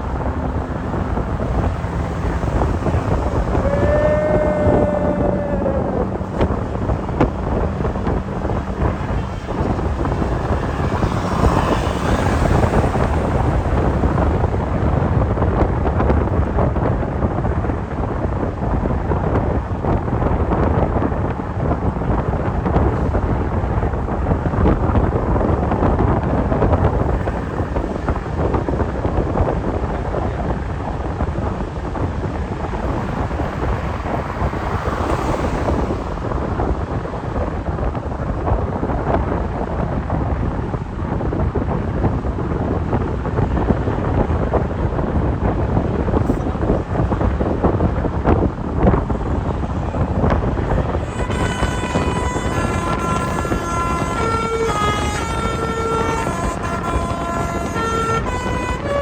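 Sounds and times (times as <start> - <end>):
road noise: 0.0 - 59.0
vehicle engine: 0.0 - 59.0
wind buffeting microphone: 0.0 - 59.0.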